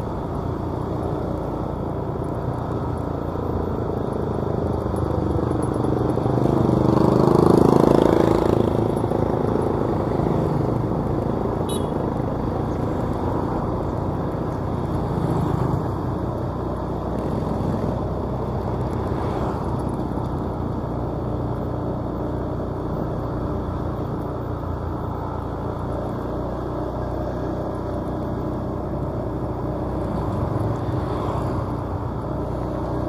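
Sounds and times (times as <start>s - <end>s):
motorcycles passing: 0.0s - 33.0s
traffic engine and road rumble: 0.0s - 33.0s.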